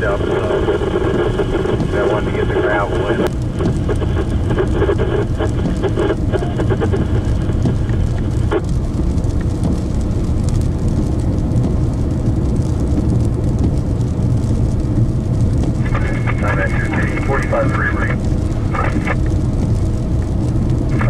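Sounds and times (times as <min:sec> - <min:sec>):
rough crackly noise: 0:00.0 - 0:21.0
vehicle road and engine rumble: 0:00.0 - 0:21.0.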